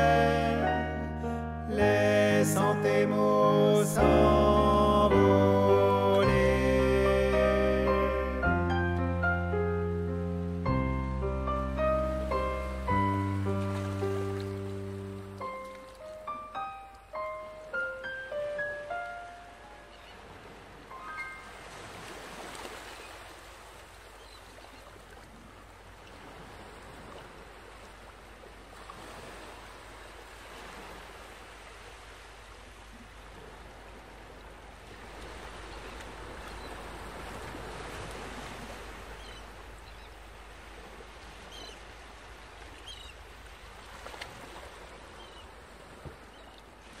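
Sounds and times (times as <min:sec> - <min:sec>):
sea waves washing in: 0:00.0 - 0:47.0.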